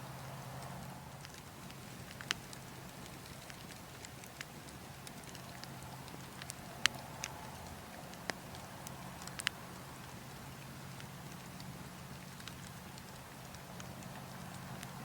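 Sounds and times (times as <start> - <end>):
burning logs crackling: 0.0 - 15.0
low wind: 0.0 - 15.0
sharp pops from fire: 0.6 - 15.0.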